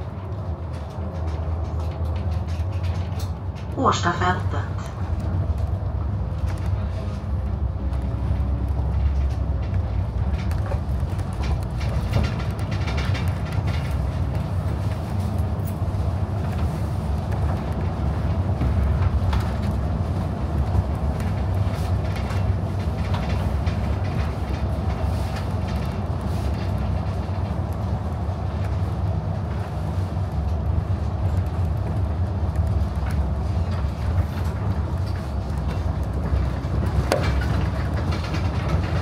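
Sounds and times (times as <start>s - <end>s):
bus body rattling: 0.0s - 39.0s
bus engine and road rumble: 0.0s - 39.0s.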